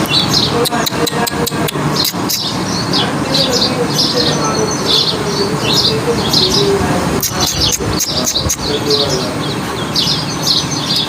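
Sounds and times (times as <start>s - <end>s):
birds chirping: 0.0s - 11.0s
steady rushing noise: 0.0s - 11.0s.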